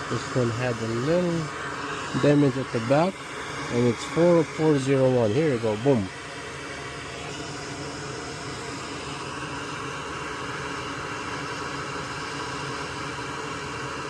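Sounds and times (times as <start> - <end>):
fan whooshing hiss: 0.0 - 14.0.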